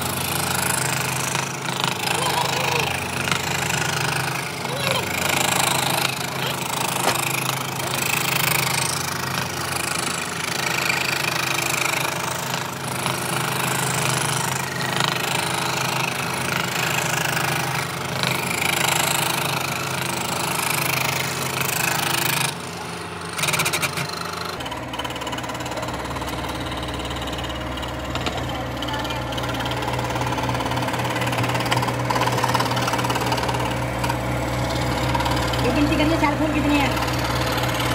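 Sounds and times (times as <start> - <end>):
power tool working wood: 0.0 - 37.9.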